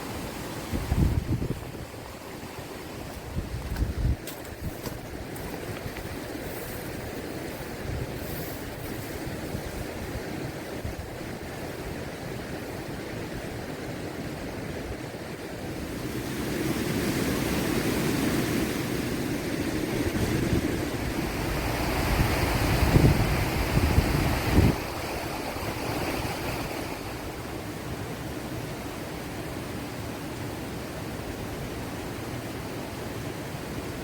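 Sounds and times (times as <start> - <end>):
flowing water rushing: 0.0 - 3.7, 4.3 - 34.0
wind buffeting microphone: 0.0 - 28.0.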